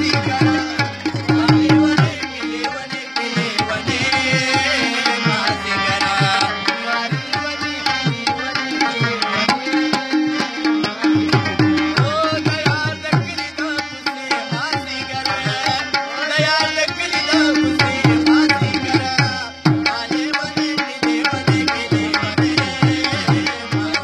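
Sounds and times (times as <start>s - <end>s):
harmonium: 0.0s - 24.0s
rabab melody: 0.0s - 24.0s
tabla rhythm: 0.0s - 24.0s.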